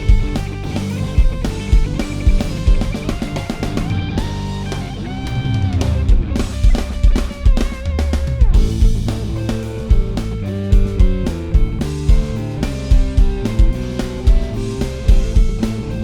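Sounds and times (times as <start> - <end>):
bass guitar: 0.0 - 16.0
drum kit beat: 0.0 - 16.0
electric guitar with bent notes: 0.0 - 16.0.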